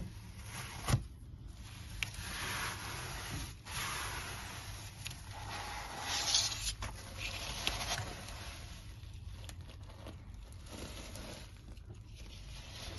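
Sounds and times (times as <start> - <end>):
fingers rustling artificial grass: 0.0 - 12.9.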